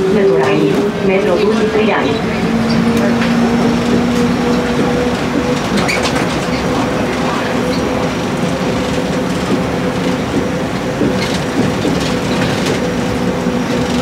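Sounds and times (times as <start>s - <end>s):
people mover running hum: 0.0s - 14.0s.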